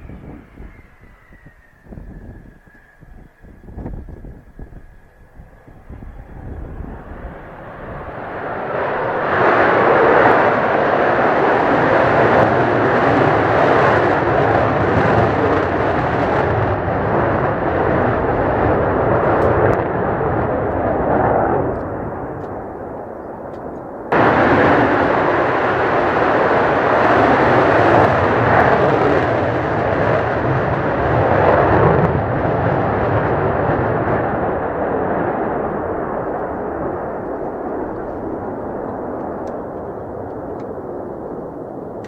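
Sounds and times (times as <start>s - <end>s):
jet engine roaring: 0.0s - 42.0s.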